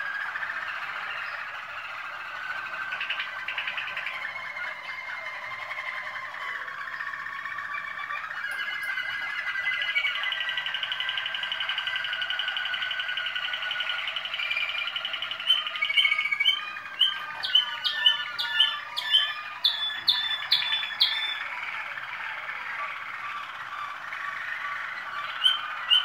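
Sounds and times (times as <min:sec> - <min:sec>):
canary trilling: 0:00.0 - 0:26.0.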